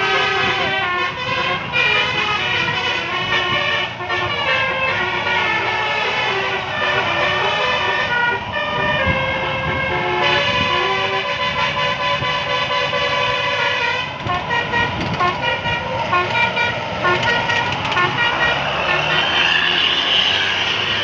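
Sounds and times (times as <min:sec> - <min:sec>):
air horn playing a melody: 0:00.0 - 0:21.0
engine and road noise: 0:00.0 - 0:21.0.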